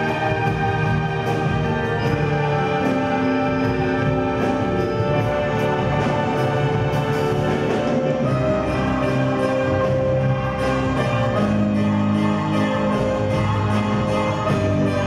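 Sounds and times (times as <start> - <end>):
children's orchestra playing: 0.0 - 15.0
grand piano chords: 0.0 - 15.0.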